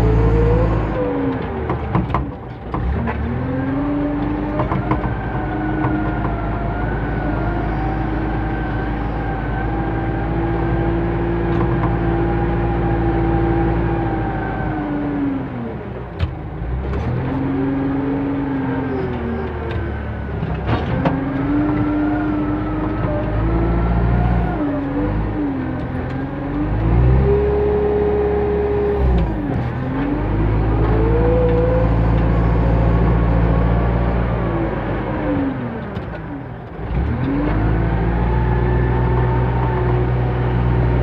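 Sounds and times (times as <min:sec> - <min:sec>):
diesel engine running hard: 0:00.0 - 0:41.0.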